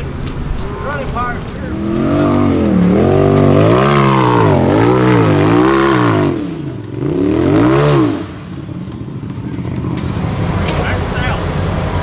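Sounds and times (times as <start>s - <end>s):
engine revving in throttle blips: 0.0s - 12.0s.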